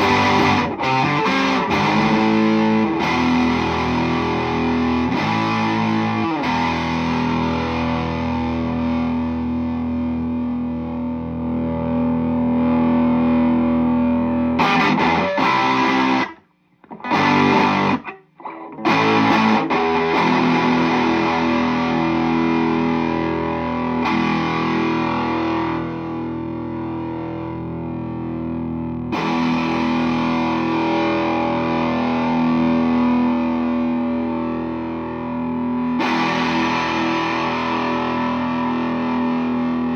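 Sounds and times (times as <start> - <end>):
distorted electric guitar chords: 0.0 - 39.9.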